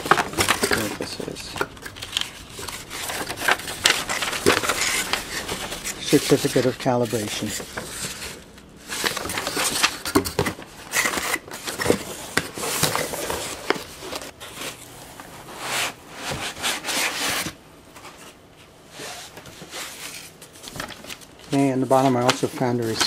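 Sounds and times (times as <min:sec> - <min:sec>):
paper sheets rustling: 0:00.0 - 0:23.0.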